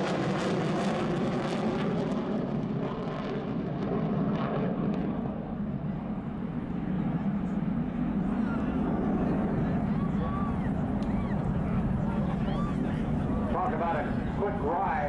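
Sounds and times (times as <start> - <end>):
jet engines in afterburner: 0.0 - 15.0.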